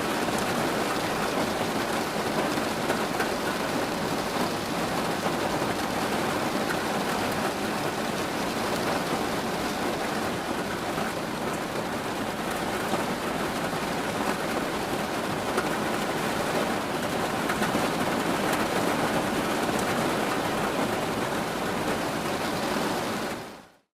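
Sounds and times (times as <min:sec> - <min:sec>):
heavy rain falling: 0:00.0 - 0:23.8.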